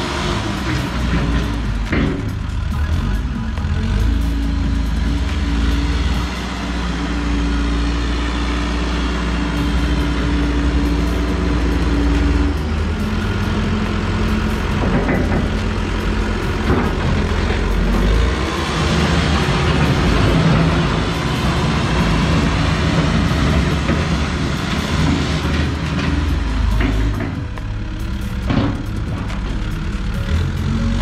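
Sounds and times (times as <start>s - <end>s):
backhoe diesel engine running: 0.0s - 31.0s.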